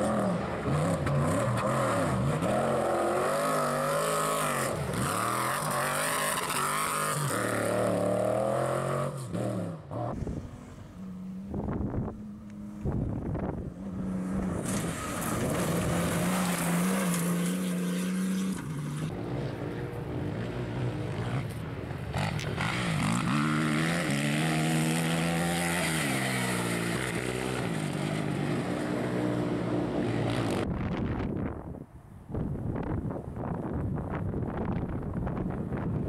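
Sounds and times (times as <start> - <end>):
off-road motorcycles revving: 0.0 - 30.7
rally car passing: 0.0 - 30.7.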